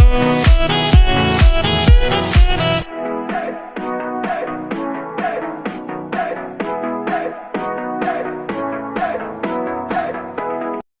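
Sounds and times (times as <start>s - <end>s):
electronic music with a beat: 0.0s - 10.8s.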